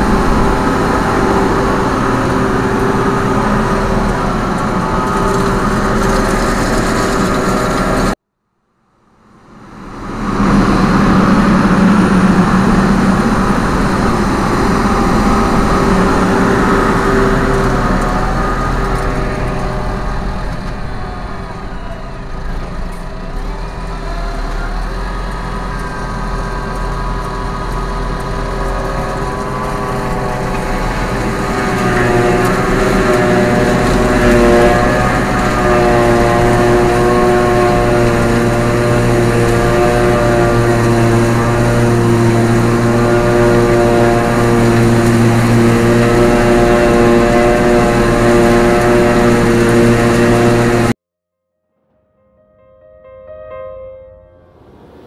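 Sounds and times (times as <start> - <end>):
forage harvester drone and whine: 0.0 - 8.2, 9.0 - 51.0, 54.5 - 55.0
tractor engine running: 0.0 - 8.2, 9.3 - 51.0.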